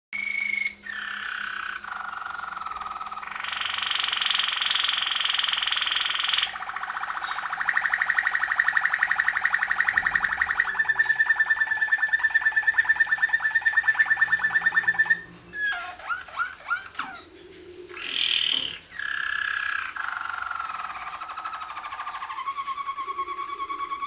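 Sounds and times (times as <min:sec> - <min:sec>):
canary singing: 0:00.2 - 0:24.0.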